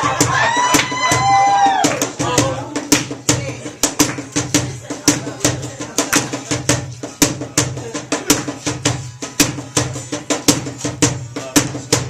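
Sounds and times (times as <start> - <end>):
drums keeping a steady beat: 0.0 - 12.0.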